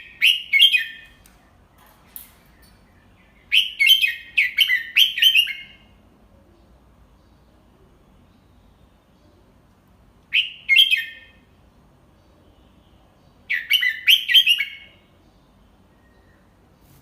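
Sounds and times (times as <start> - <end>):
bird singing: 0.0 - 16.8.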